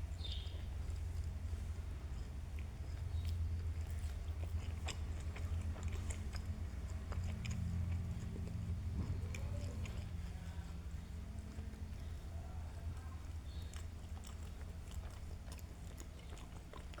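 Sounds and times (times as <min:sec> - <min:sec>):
cat chewing food: 0:00.0 - 0:17.0
steady low hum: 0:00.0 - 0:17.0.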